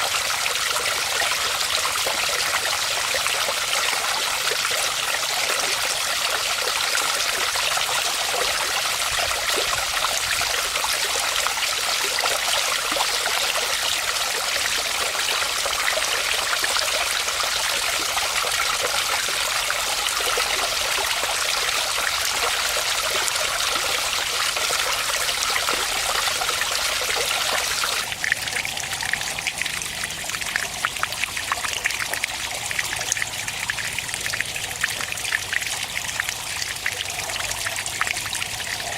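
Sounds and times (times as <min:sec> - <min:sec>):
water trickling: 0:00.0 - 0:38.9
waterfall splashing into pond: 0:00.0 - 0:38.9.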